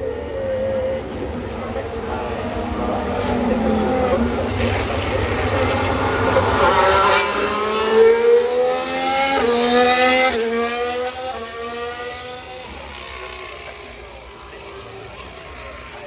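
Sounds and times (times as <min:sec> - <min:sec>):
racing car engine accelerating past: 0:00.7 - 0:13.8.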